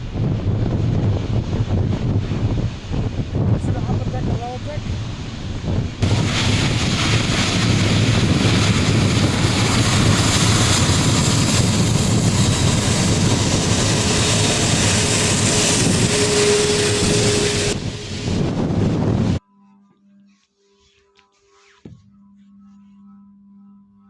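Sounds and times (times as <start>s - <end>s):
jet engines running: 0.0s - 19.4s.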